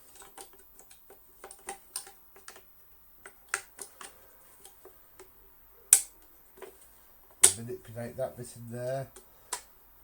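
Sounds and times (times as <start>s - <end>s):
plastic parts clicking and tapping: 0.0s - 7.6s, 9.0s - 9.7s.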